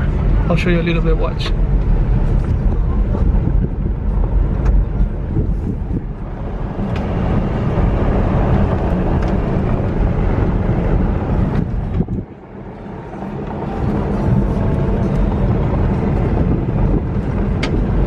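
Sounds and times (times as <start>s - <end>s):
pickup truck engine and tyres rumbling: 0.0s - 18.0s.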